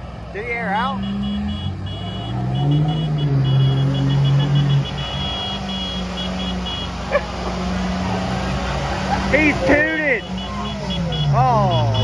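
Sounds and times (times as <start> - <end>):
truck engine revving hard: 0.0 - 12.0
high tyre squeal: 0.8 - 12.0.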